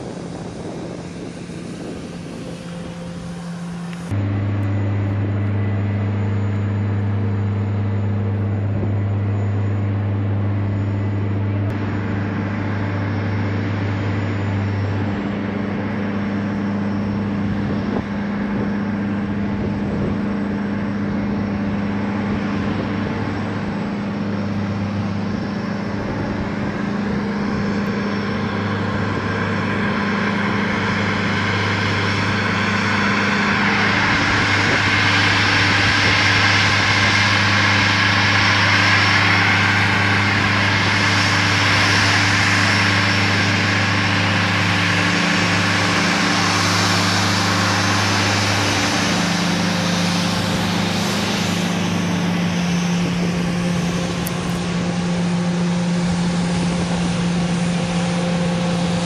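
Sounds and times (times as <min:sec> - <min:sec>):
jet engines whining while taxiing: 0:00.0 - 0:59.0
steady low drone: 0:00.0 - 0:59.0.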